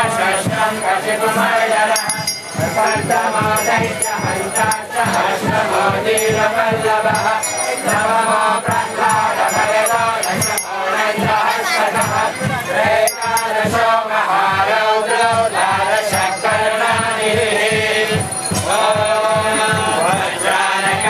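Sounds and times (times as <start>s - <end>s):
drum beat: 0.0s - 21.0s
group chanting: 0.0s - 21.0s
hand cymbals ringing: 0.0s - 21.0s.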